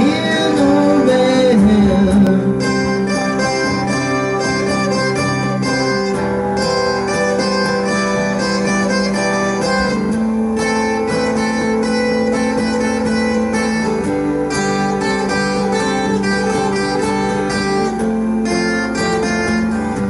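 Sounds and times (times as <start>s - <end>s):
acoustic guitars playing: 0.0s - 20.0s.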